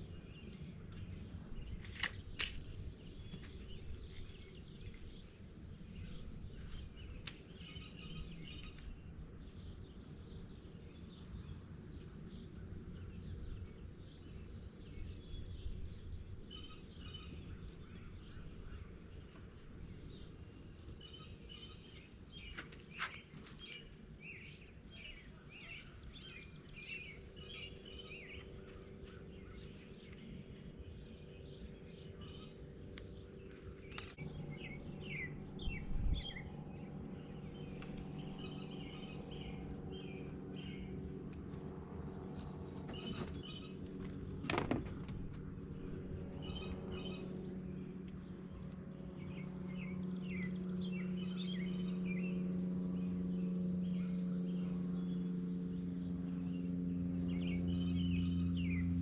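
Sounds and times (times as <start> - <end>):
low background rumble: 0.0 - 59.0
low mechanical hum: 0.0 - 59.0
small birds chirping: 0.0 - 59.0.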